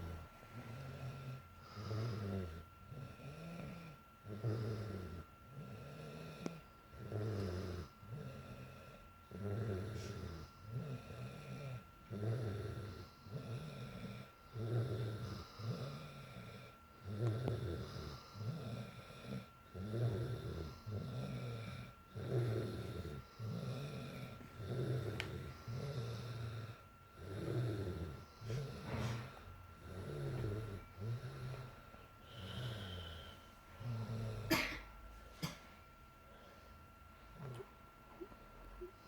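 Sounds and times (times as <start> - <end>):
girl snoring: 0.0 - 34.8.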